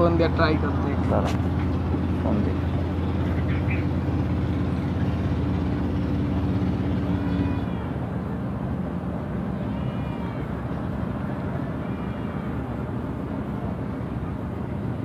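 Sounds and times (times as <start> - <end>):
low humming engine drone: 0.0 - 15.0.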